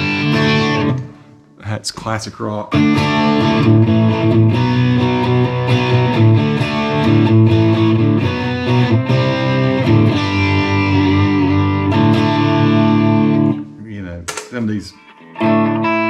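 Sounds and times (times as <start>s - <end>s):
electric guitar strumming chords: 0.0s - 1.6s, 2.7s - 13.7s, 14.3s - 16.0s.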